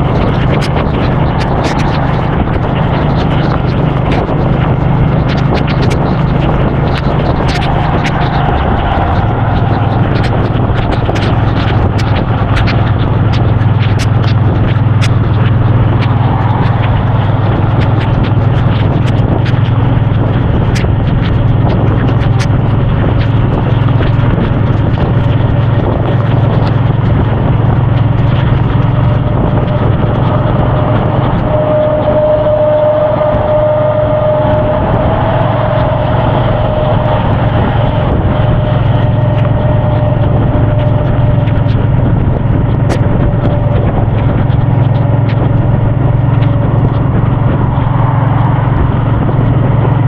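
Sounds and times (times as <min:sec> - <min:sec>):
motorcycle engine running: 0:00.0 - 0:50.0
sharp ticks: 0:00.0 - 0:50.0
steady whine: 0:00.0 - 0:50.0
wind and road rush: 0:00.0 - 0:50.0.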